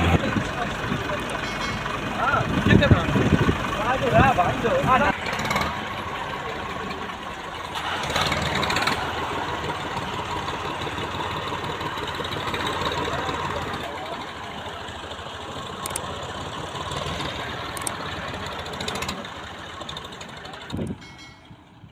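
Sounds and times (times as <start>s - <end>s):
vehicle engine idling: 0.0s - 21.9s.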